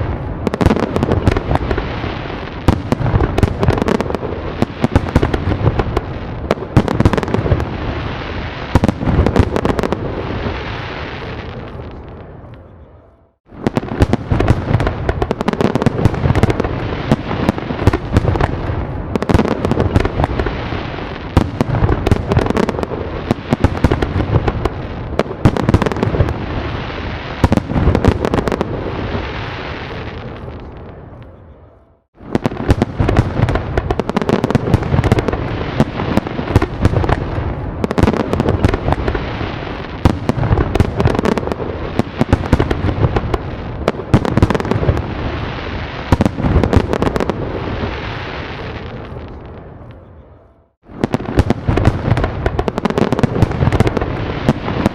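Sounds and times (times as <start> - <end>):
deep fireworks booming: 0.0 - 54.9
fireworks bangs and crackles: 0.0 - 54.9.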